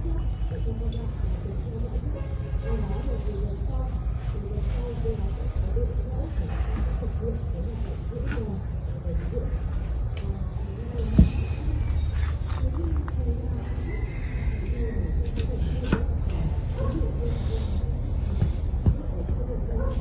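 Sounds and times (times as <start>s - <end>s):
constant low rumble: 0.0s - 20.0s
crickets trilling: 0.0s - 20.0s.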